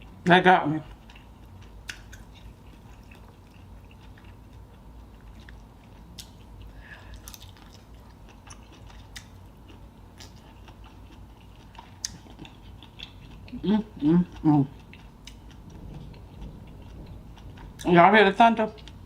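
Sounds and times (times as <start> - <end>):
low steady hum: 0.0 - 19.0
chewing: 0.8 - 17.9.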